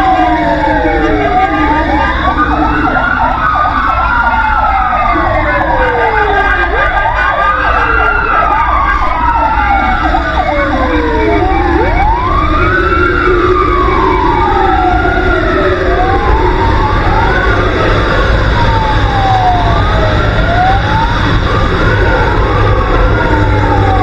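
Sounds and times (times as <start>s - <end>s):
sirens wailing: 0.0s - 24.0s
truck rumble: 0.0s - 24.0s
yelping siren warble: 0.0s - 24.0s.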